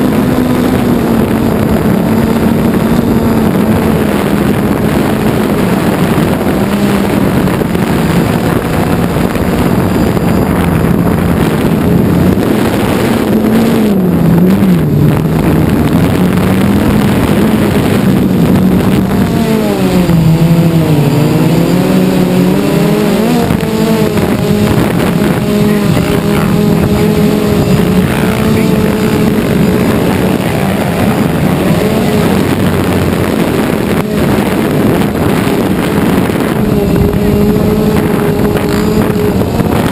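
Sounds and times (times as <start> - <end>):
quadcopter drone buzzing: 0.0 - 39.9.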